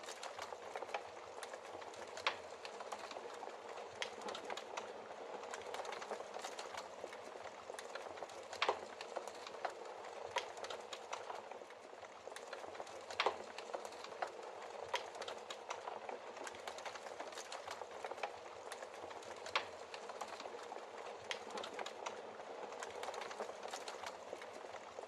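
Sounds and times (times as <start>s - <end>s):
wood fire pops and snaps: 0.0s - 11.7s, 12.3s - 25.0s
fire hissing and fluttering: 0.0s - 25.0s.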